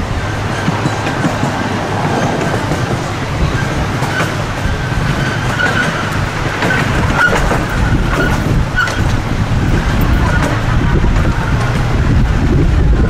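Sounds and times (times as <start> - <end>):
amusement park train rumbling: 0.0 - 13.0.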